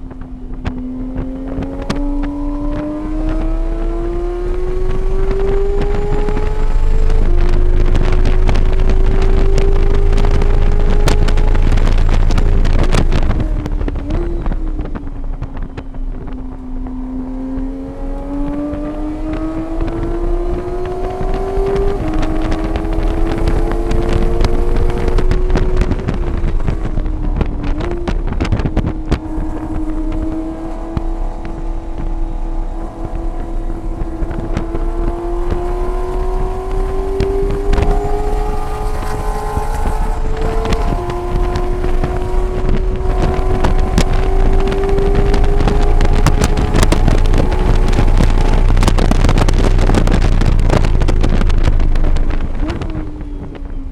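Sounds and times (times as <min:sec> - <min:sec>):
vehicle engine accelerating: 0:00.0 - 0:53.9
wind buffeting microphone: 0:00.0 - 0:53.9.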